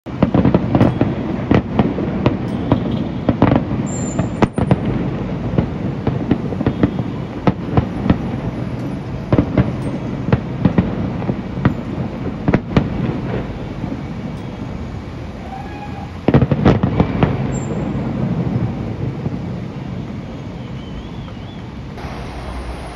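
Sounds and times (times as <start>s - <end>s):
firework shells bursting: 0.1s - 22.9s.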